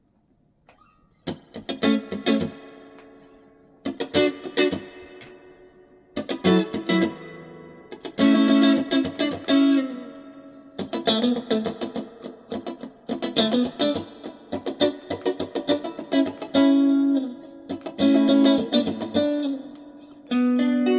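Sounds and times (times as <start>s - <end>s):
solo electric guitar: 1.2s - 20.9s.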